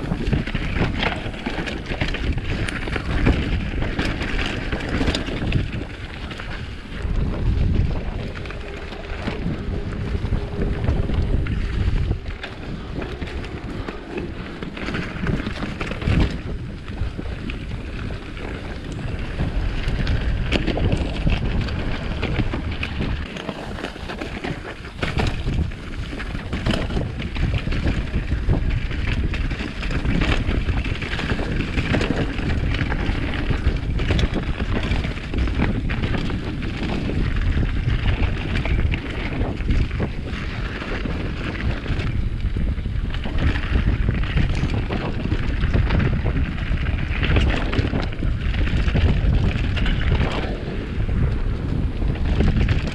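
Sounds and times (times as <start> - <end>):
bike rattling over bumps: 0.0 - 52.9
tyres crackling over dry leaves: 0.0 - 52.9
wind buffeting microphone: 0.0 - 52.9.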